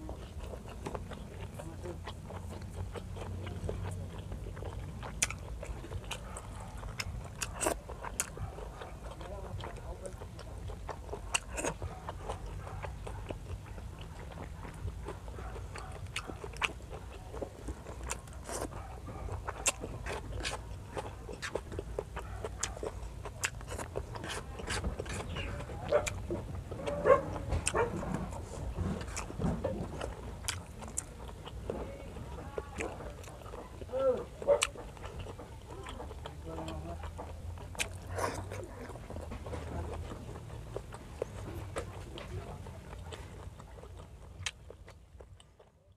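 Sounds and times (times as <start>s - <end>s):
chewing and wet mouth smacking: 0.0s - 45.9s.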